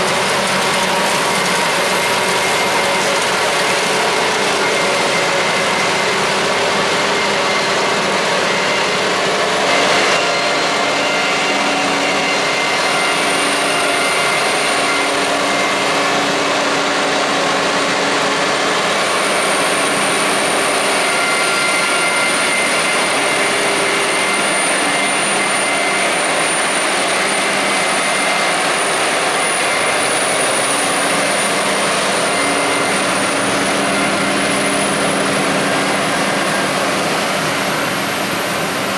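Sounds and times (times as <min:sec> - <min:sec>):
constant high whine: 0:00.0 - 0:38.9
farm machinery engines: 0:00.0 - 0:38.9.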